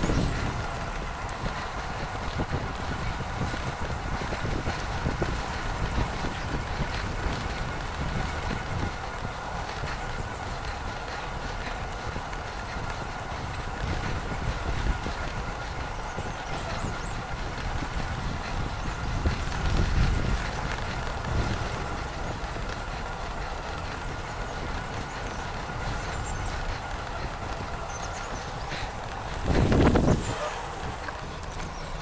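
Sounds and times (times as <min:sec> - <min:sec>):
road noise: 0:00.0 - 0:32.0
wind rushing over microphone: 0:00.0 - 0:32.0.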